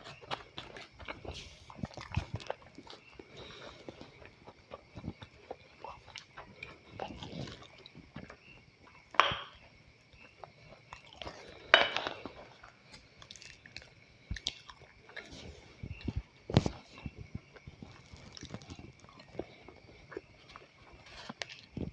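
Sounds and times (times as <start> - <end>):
person chewing food: 0.0 - 21.9.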